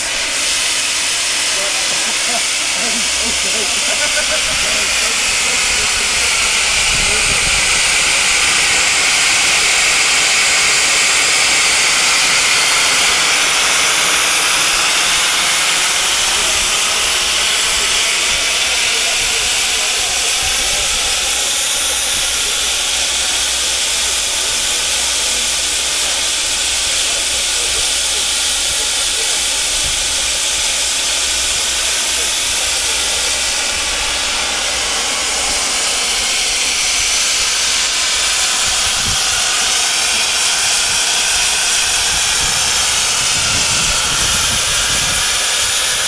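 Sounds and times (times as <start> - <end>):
loud hiss of escaping steam: 0.0 - 46.0.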